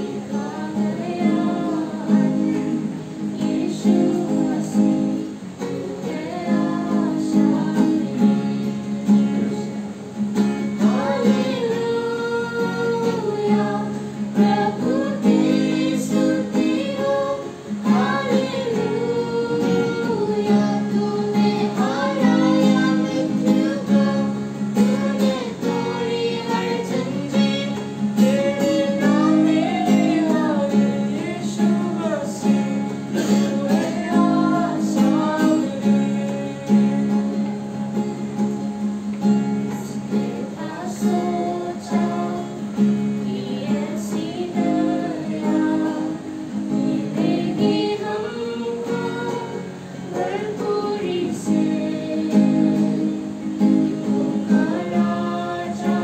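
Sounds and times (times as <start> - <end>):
boys singing along: 0.0 - 9.7, 10.7 - 37.5, 39.7 - 56.0
woman singing: 0.0 - 9.8, 10.6 - 37.7, 39.6 - 56.0
strummed acoustic guitar: 0.0 - 56.0.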